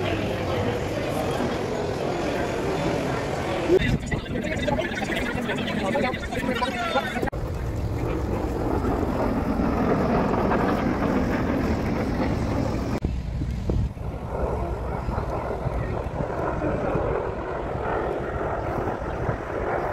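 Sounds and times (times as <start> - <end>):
jet aircraft flying overhead: 0.0 - 19.9
wind buffeting microphone: 0.0 - 19.9.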